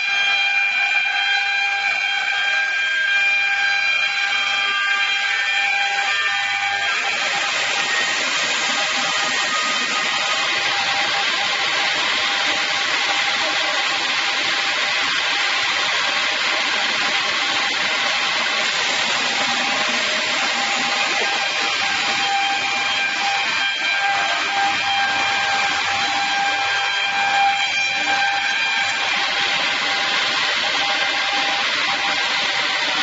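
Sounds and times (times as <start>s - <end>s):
saw blade cutting wood: 0.0s - 33.0s
saw motor running: 0.0s - 33.0s.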